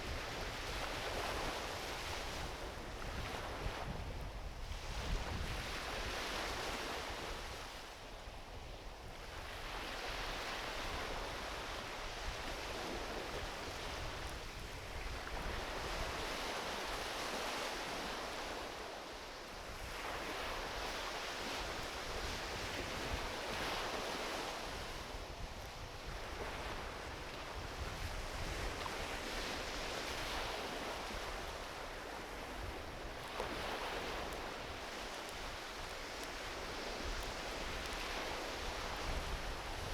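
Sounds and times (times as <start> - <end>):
small waves washing onto beach: 0.0 - 39.9
wind rumble on microphone: 0.0 - 39.9.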